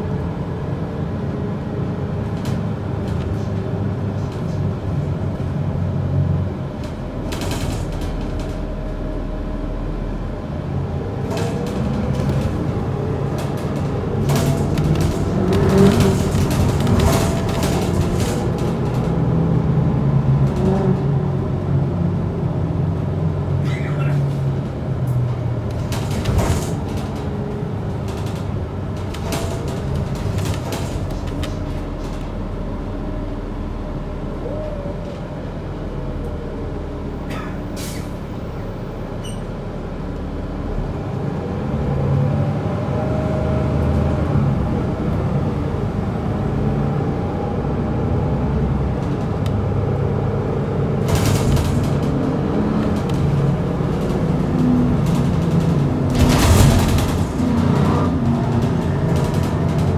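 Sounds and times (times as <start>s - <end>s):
bus diesel engine: 0.0s - 59.9s
sharp clatters in bus cabin: 1.6s - 9.6s, 10.8s - 21.6s, 22.5s - 33.6s, 37.2s - 40.3s, 43.7s - 59.9s.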